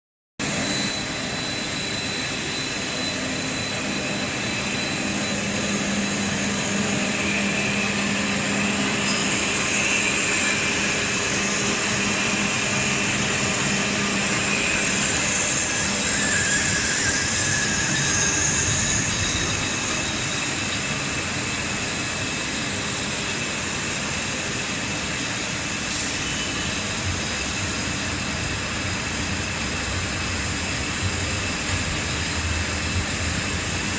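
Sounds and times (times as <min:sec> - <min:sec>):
faint high whines: 0:00.4 - 0:33.9
wire drawing machine running: 0:00.4 - 0:33.9.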